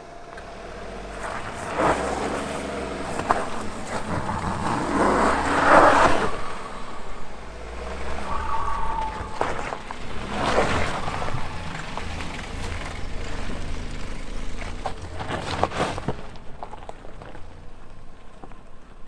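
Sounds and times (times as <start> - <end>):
car engine under load: 0.0 - 19.0
mud and water splashing: 0.9 - 16.6.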